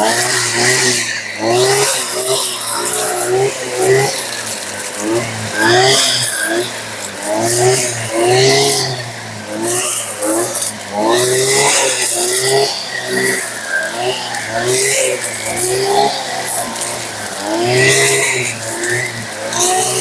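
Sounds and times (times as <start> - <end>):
brushcutter engine revving: 0.0 - 20.0
chain slashing grass: 0.0 - 20.0.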